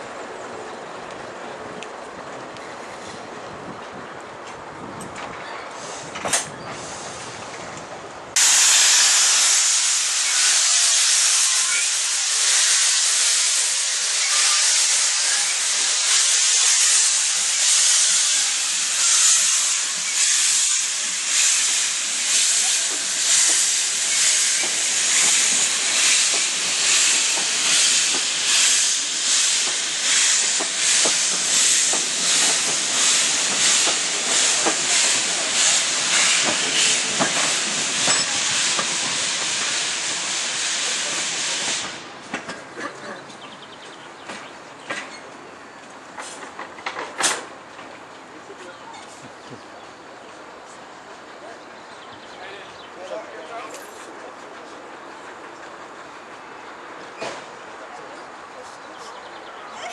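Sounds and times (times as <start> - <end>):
steam locomotive hissing steam: 5.7 - 7.7, 8.3 - 45.4, 46.0 - 59.9.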